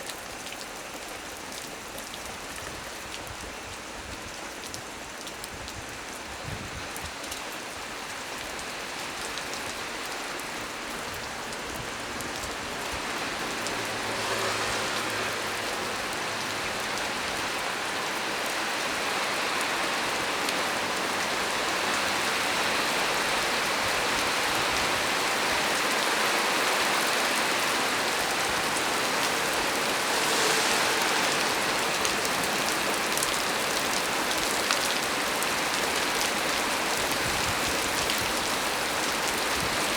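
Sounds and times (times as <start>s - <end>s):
heavy rain on tree: 0.0s - 39.9s.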